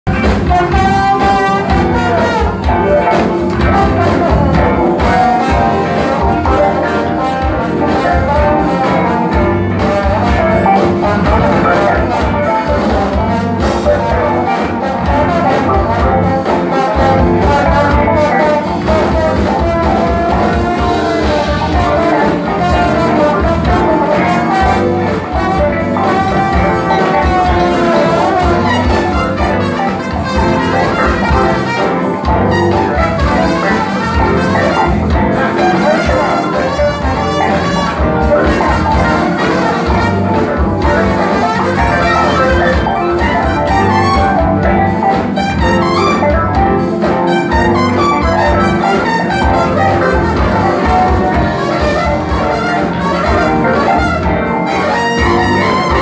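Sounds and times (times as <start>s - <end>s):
bass: 0.0s - 56.0s
electric guitar: 0.0s - 56.0s
drums with steady beat: 0.1s - 56.0s
horn section: 0.1s - 56.0s.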